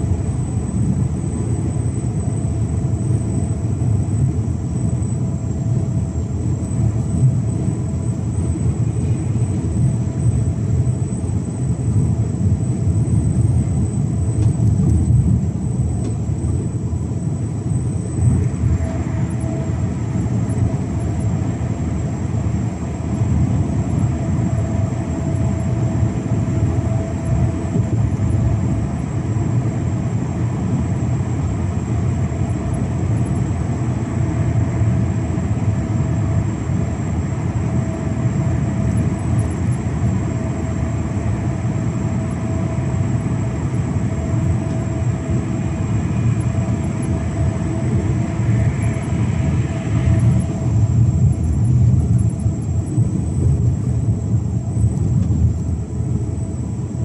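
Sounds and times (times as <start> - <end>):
diesel truck engine drone: 0.0 - 57.0
faint steady whine: 0.0 - 57.0.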